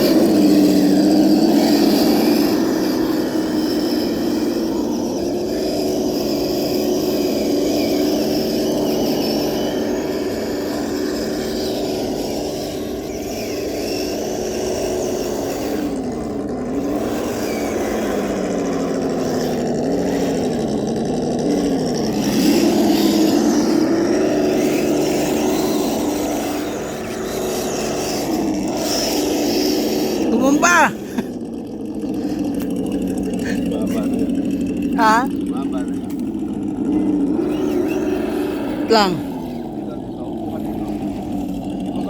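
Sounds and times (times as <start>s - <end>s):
electric toy vehicle whining: 0.0s - 42.0s.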